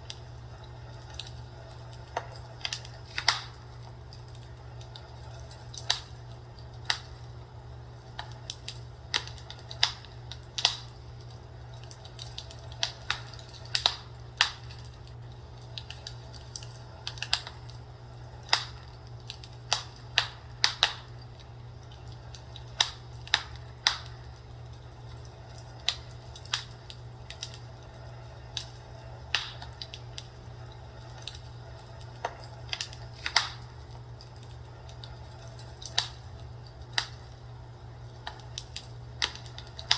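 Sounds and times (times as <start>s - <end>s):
fireplace crackling: 0.0s - 39.9s
steady low hum: 0.0s - 39.9s.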